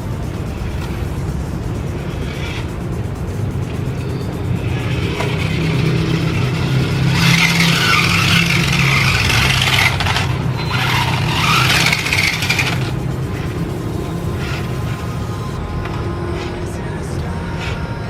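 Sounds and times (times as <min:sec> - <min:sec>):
toy car motor and gears: 0:00.0 - 0:15.6.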